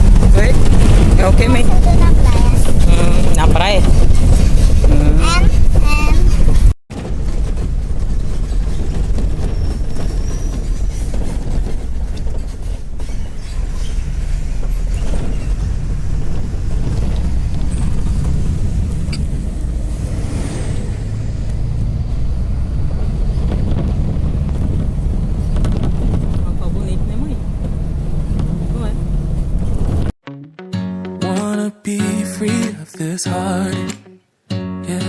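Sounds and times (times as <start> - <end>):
bus road rumble: 0.0 - 30.2.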